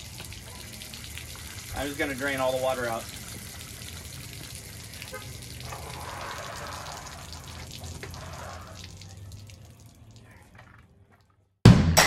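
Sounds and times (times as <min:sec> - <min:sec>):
water spattering onto concrete: 0:00.0 - 0:10.9.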